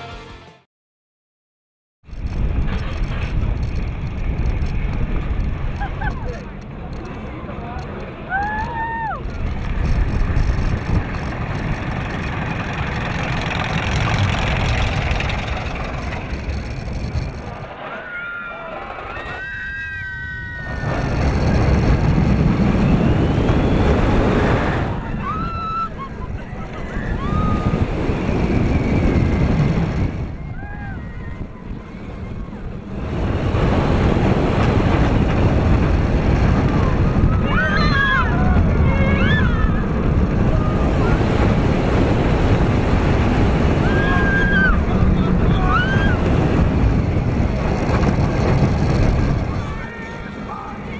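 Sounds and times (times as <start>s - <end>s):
wind rushing over camera: 2.0s - 18.0s, 19.0s - 50.9s
roller coaster train rumbling on track: 2.1s - 50.9s.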